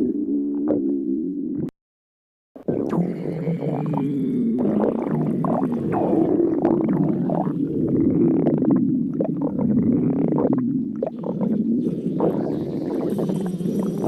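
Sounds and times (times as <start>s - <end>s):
stomach growling: 0.0s - 1.7s, 2.6s - 14.0s.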